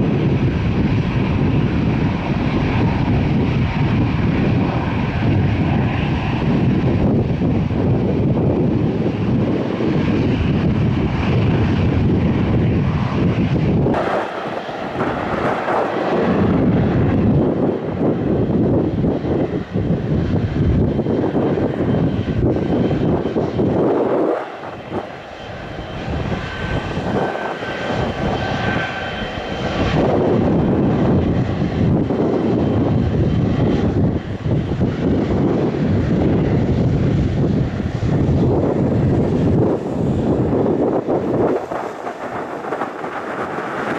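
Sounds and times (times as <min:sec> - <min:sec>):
airliner engines roaring: 0:00.0 - 0:43.9.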